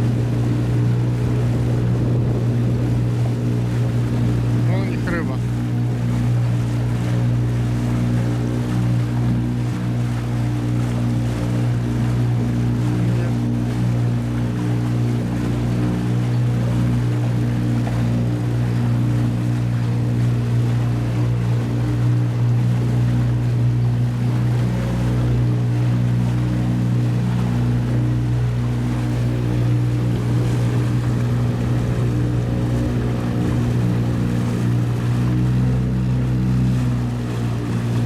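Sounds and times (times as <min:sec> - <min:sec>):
boat motor running: 0:00.0 - 0:38.0
water noise: 0:00.0 - 0:38.0
wind: 0:00.0 - 0:38.0.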